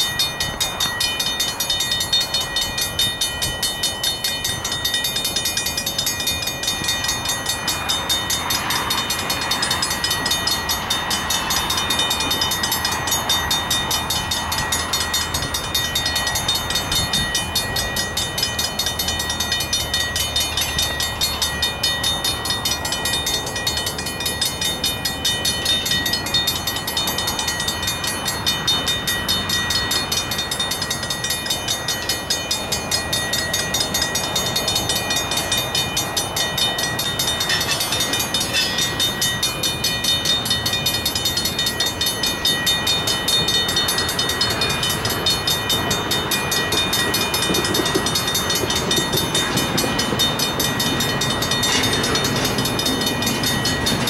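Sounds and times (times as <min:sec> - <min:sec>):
railroad crossing bells ringing: 0:00.0 - 0:54.0.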